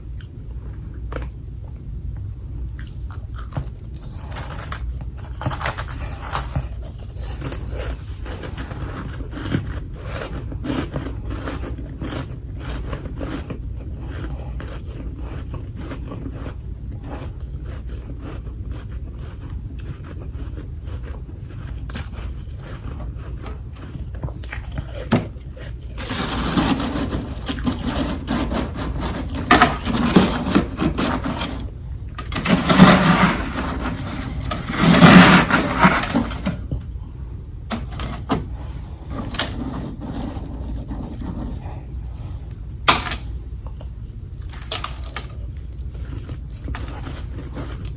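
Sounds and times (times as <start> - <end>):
frost crunching being chewed: 2.6 - 37.0, 43.7 - 47.9.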